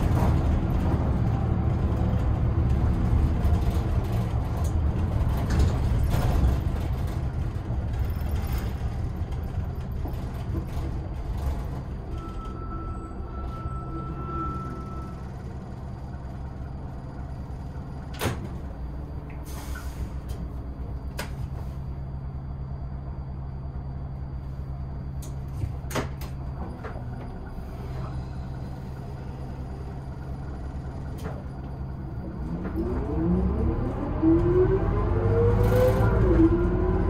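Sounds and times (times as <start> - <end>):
bus engine idling: 0.0 - 32.9.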